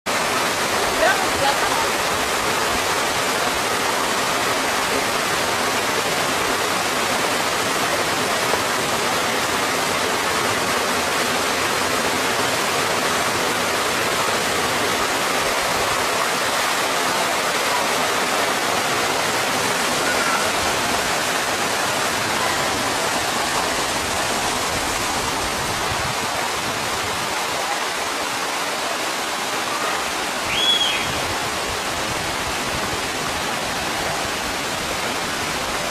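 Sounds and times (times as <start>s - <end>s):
waterfall and stream rushing: 0.1s - 35.9s.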